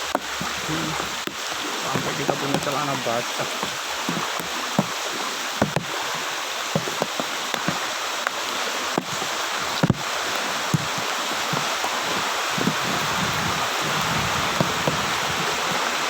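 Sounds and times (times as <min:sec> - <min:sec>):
floodwater rushing: 0:00.0 - 0:16.0
wading splashes: 0:00.0 - 0:16.0.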